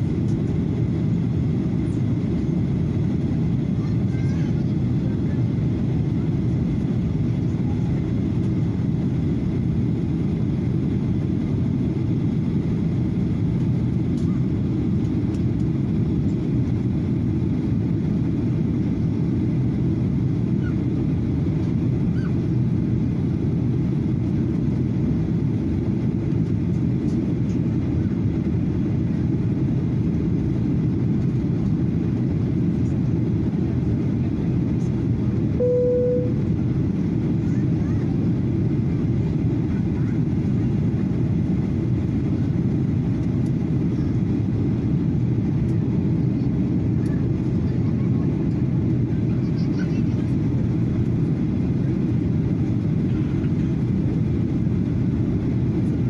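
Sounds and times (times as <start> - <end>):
airplane engines rumbling: 0.0 - 56.0.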